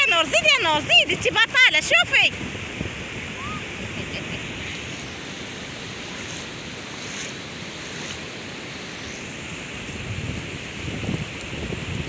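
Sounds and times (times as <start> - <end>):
sea surf on beach: 0.0 - 12.0
wind on microphone: 0.0 - 12.0.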